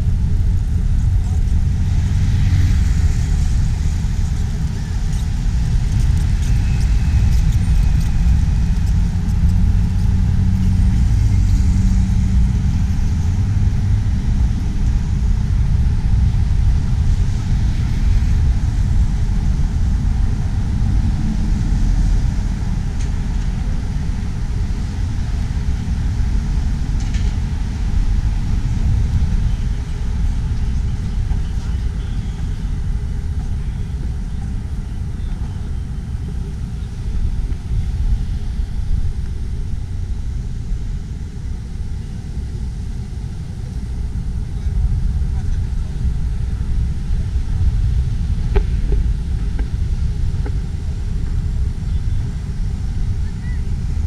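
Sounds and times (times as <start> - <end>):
low rumble of city ambience: 0.0 - 54.0
road traffic passing: 0.0 - 54.0.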